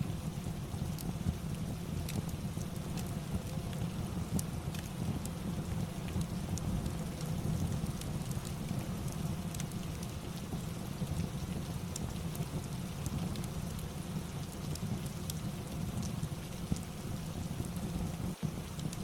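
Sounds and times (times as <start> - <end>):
fireplace crackling: 0.0 - 19.0
steady rain: 0.0 - 19.0.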